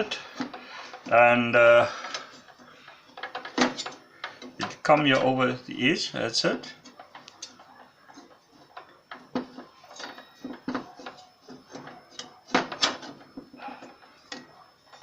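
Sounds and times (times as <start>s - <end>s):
clicks and metal knocks: 0.0s - 5.6s, 6.4s - 15.0s.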